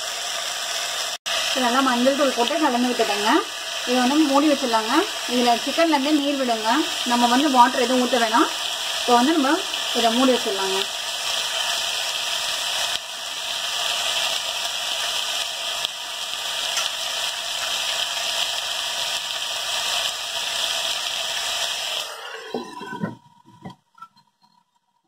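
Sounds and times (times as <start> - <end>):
chicken sizzling in oil: 0.0 - 22.8.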